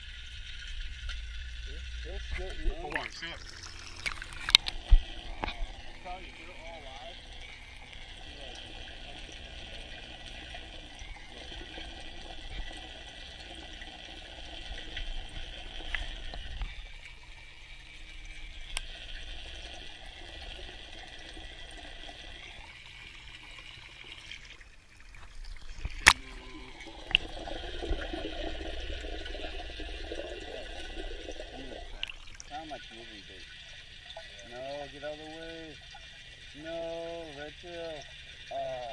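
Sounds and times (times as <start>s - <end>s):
muffled underwater water wash: 0.0s - 38.9s.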